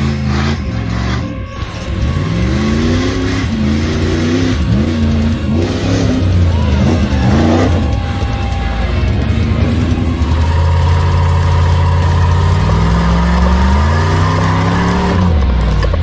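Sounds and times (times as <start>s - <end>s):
race vehicle engine revving: 0.0s - 16.0s.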